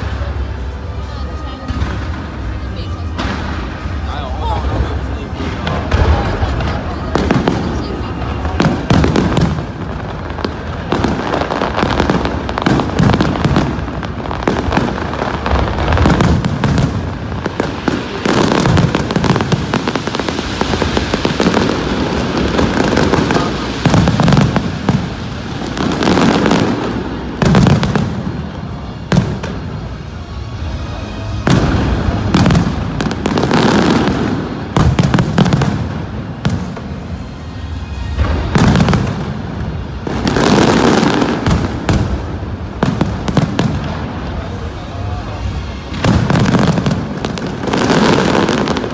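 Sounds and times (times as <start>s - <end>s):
fireworks booming and crackling: 0.0s - 48.9s.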